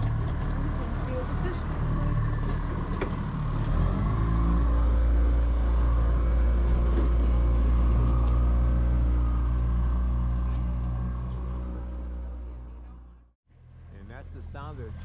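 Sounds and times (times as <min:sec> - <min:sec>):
outboard motors humming: 0:00.0 - 0:13.3.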